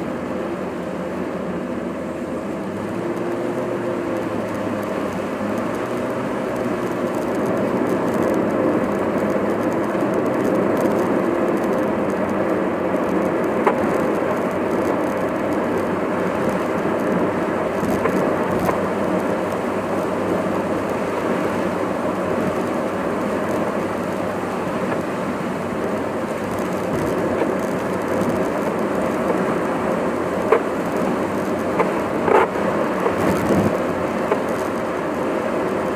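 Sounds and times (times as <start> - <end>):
car driving road noise: 0.0 - 35.9.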